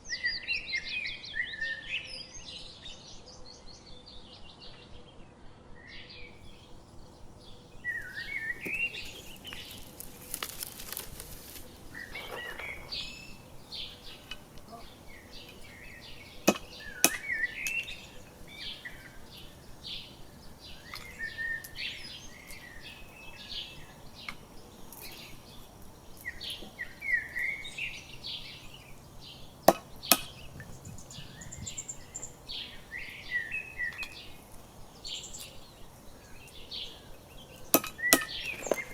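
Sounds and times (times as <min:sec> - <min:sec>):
small birds chirping: 0:06.1 - 0:38.9.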